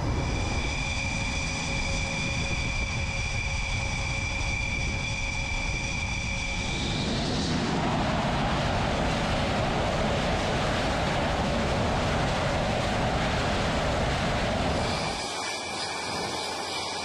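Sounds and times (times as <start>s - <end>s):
high engine whine: 0.0s - 17.0s
rushing jet noise: 0.0s - 17.0s.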